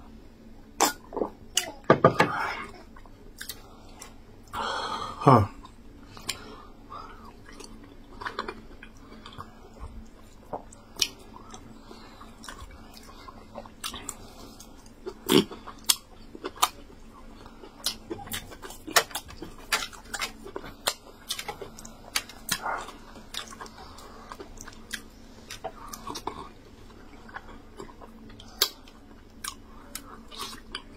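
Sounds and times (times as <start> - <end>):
chewing and lip-smacking: 2.9 - 4.6, 5.6 - 6.5, 7.2 - 30.9.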